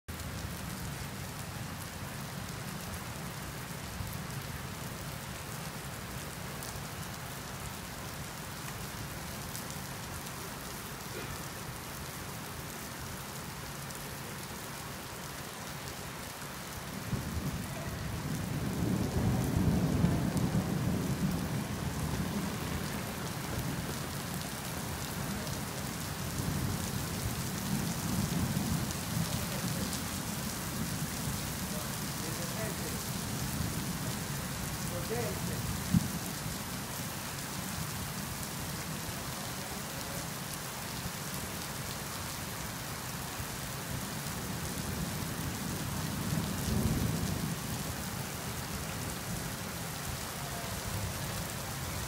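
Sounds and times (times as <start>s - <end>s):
rain falling on street: 0.1s - 52.0s.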